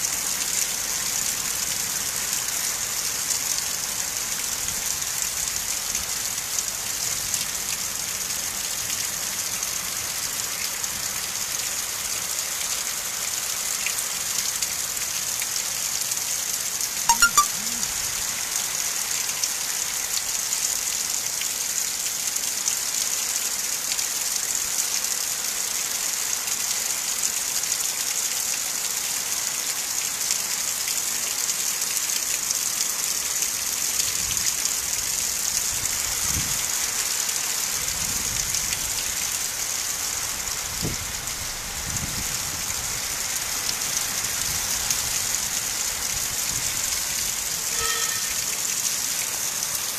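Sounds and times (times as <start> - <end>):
heavy rain in wind: 0.0 - 17.0, 17.8 - 49.9.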